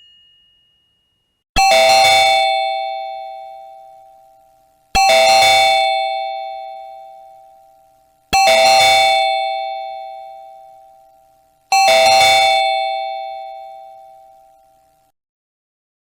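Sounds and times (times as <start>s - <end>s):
doorbell ringing: 0.0s - 15.0s.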